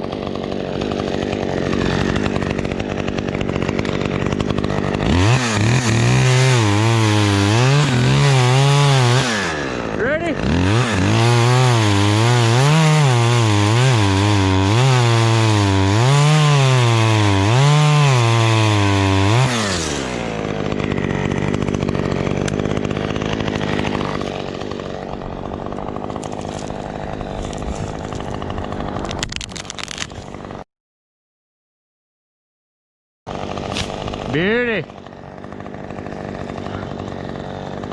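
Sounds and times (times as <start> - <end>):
chainsaw cutting at full throttle: 0.0 - 30.6, 33.3 - 37.9
chainsaw idling: 0.0 - 30.6, 33.3 - 37.9.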